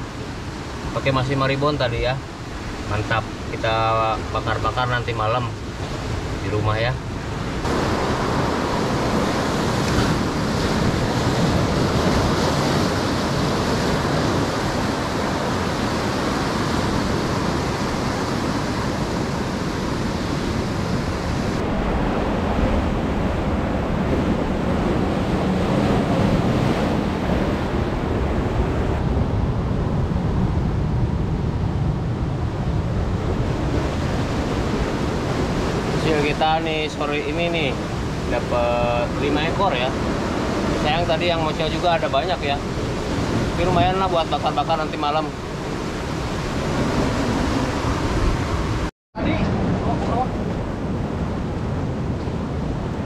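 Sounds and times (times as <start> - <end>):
surf breaking on rocky shore: 0.0 - 53.0
wind rumbling on microphone: 0.0 - 53.0.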